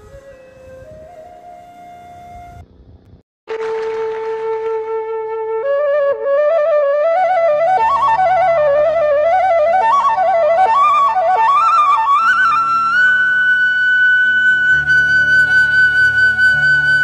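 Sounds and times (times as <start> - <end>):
bamboo flute melody: 0.0 - 2.7, 3.5 - 17.0.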